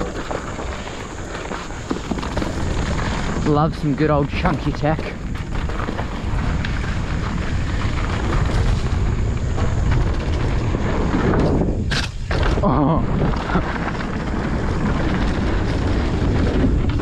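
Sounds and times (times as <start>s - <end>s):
bike tyres rumbling on rocks: 0.0s - 17.0s
wind buffeting microphone: 0.0s - 17.0s.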